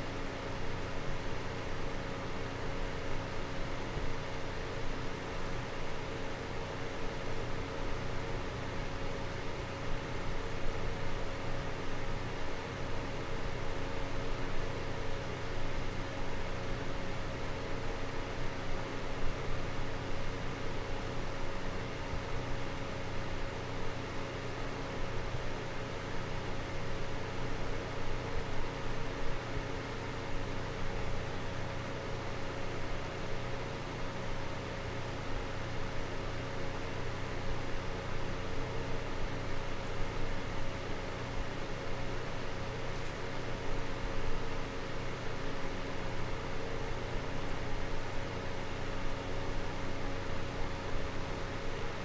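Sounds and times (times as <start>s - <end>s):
desk fan running: 0.0s - 52.0s.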